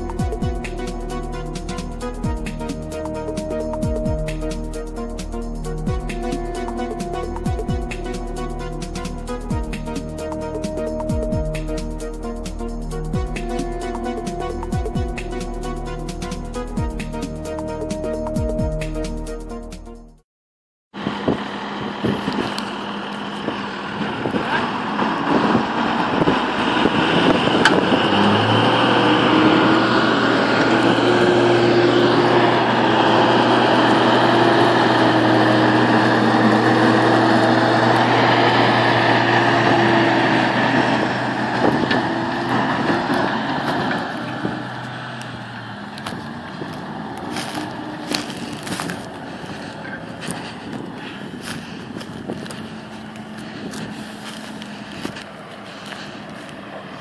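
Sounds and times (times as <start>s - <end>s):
tractor diesel engine under load: 0.0s - 19.3s, 20.9s - 57.0s.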